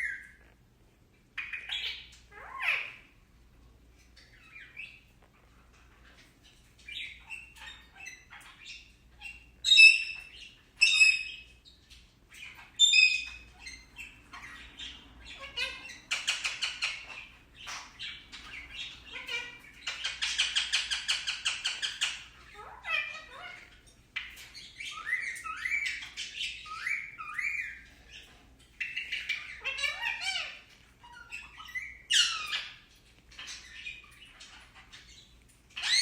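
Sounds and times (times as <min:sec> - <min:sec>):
parakeet chirping and calling: 0:00.0 - 0:36.0
parakeet squawks: 0:01.3 - 0:03.4, 0:04.1 - 0:36.0
rapid parakeet chattering: 0:04.1 - 0:36.0.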